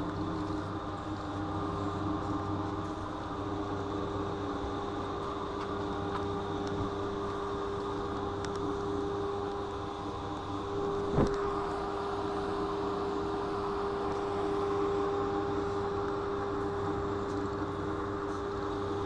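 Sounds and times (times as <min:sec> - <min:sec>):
constant whine: 0:00.0 - 0:19.0.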